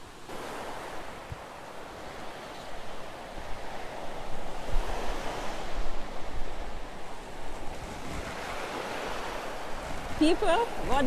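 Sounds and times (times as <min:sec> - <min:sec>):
ocean surf breaking on beach: 0:00.0 - 0:11.0
wind rumbling on microphone: 0:00.3 - 0:11.0.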